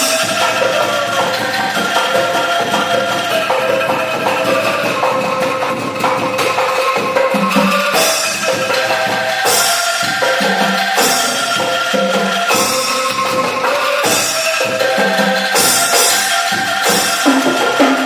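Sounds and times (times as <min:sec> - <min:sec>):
drums and percussion beat: 0:00.0 - 0:18.0.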